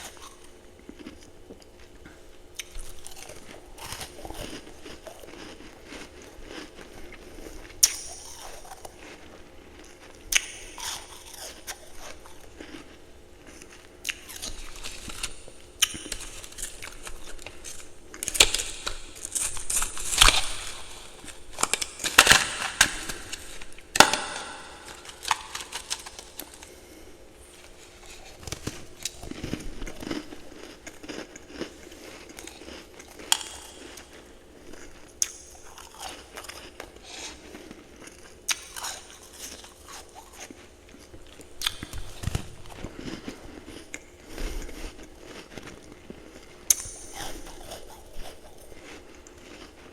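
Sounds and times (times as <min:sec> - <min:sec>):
person chewing ice: 0:00.0 - 0:49.9.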